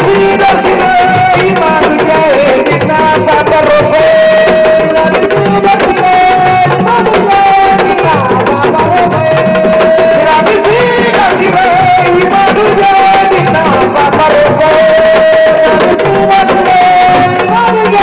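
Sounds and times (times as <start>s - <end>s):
hand drumming: 0.0s - 18.0s.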